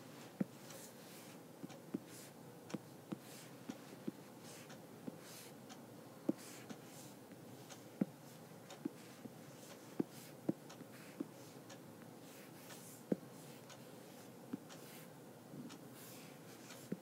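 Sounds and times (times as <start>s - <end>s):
faint clicks and taps: 1.6s - 17.0s.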